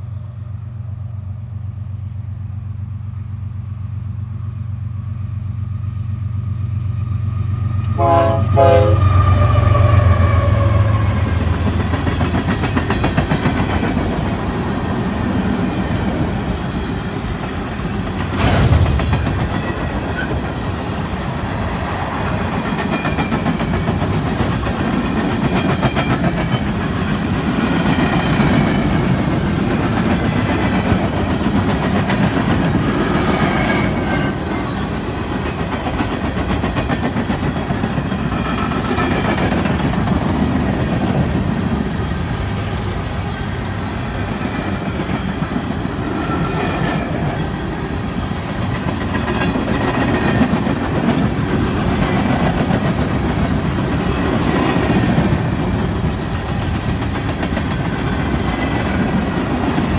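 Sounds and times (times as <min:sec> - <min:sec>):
freight train wheels clacking: 0:07.6 - 0:59.9.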